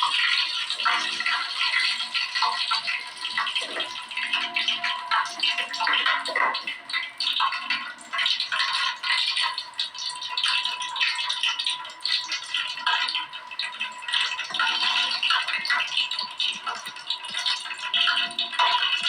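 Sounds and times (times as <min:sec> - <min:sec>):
oil sizzling in a pan: 0:00.0 - 0:19.0.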